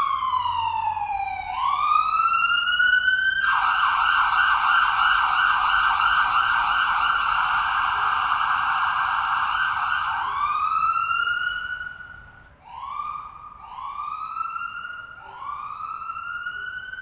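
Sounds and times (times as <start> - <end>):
ambulance siren yelp and wail: 0.0 - 17.0.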